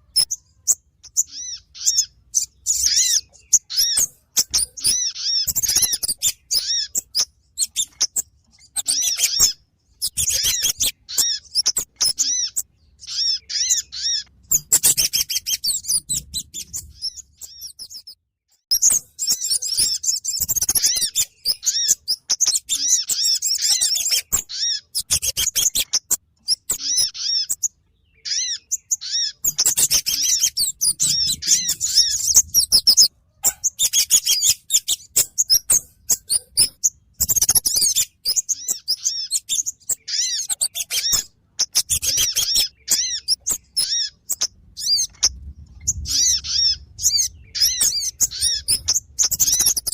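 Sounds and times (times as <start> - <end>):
high-pitched bird chirps: 0.0 - 49.9.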